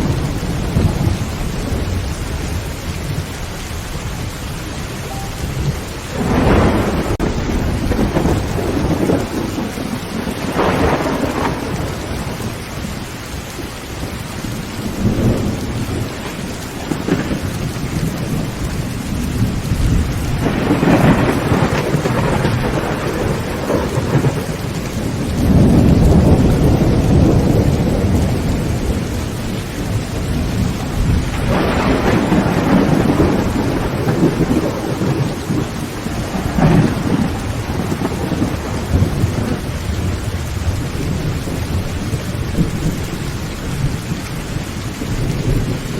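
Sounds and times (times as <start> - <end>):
heavy rain on a tin roof: 0.0 - 45.9
thunder rumbling: 0.0 - 45.9.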